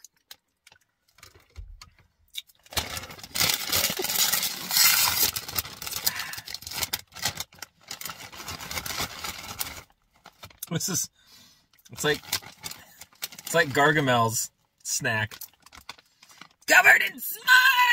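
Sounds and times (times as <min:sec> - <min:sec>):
plastic chip bag crinkling: 0:00.1 - 0:10.8, 0:11.9 - 0:14.1, 0:15.2 - 0:16.7.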